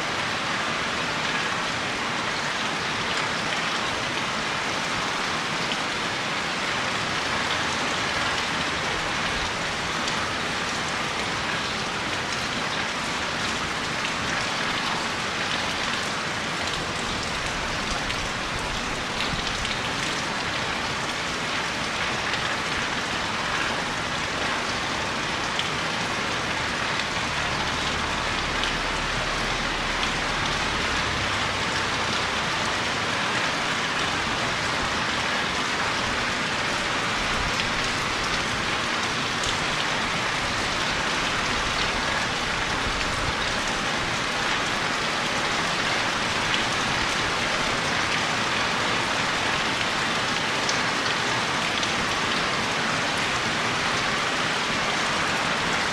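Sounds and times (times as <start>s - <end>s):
rain pattering on surfaces: 0.0s - 55.9s.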